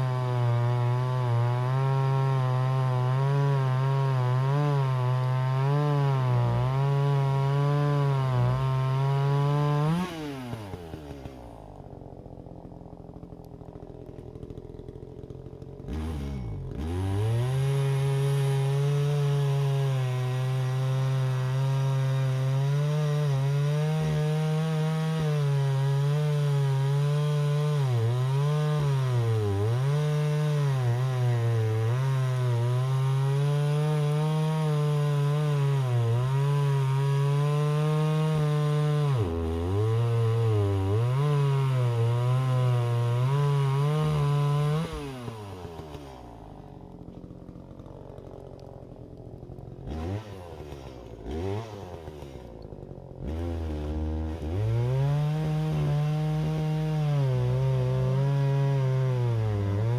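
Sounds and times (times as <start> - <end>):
chainsaw cutting wood: 0.0 - 59.9
chainsaw idling: 0.0 - 59.9.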